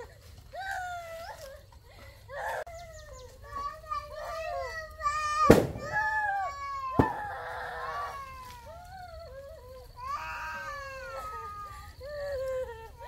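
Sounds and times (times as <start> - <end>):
young child crying: 0.0 - 13.0.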